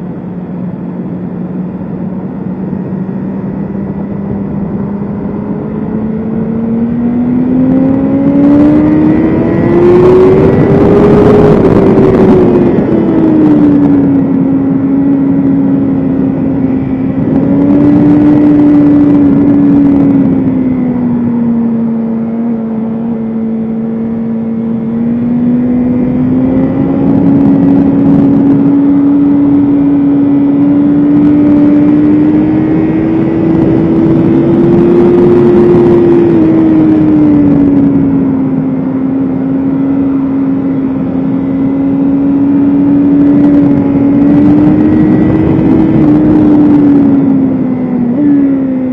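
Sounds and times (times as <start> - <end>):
motorcycle engine revving high: 0.0 - 48.9.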